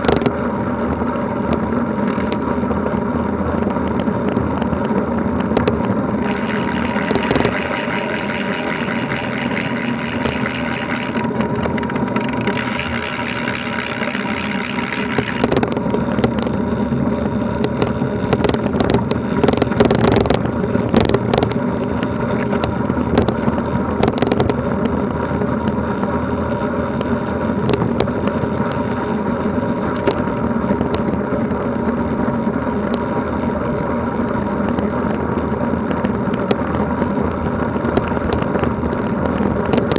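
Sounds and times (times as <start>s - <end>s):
bicycle tyre rumble: 0.0s - 39.9s
bike rattling on rough dirt track: 0.0s - 39.9s
wind: 0.0s - 39.9s.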